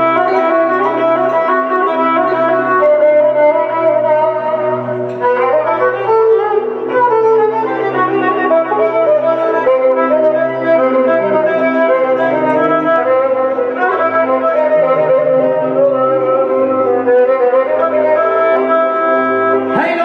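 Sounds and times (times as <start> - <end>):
electronic keyboard music: 0.0 - 20.0.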